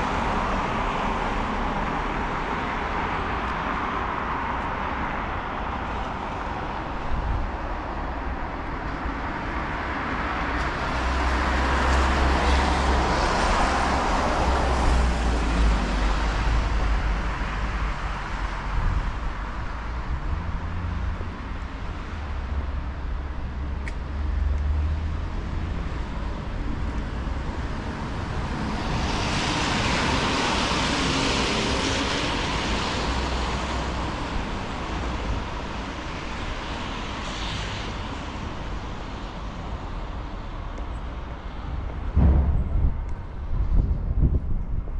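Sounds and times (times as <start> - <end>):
vehicles passing with engine rumble: 0.0 - 44.9.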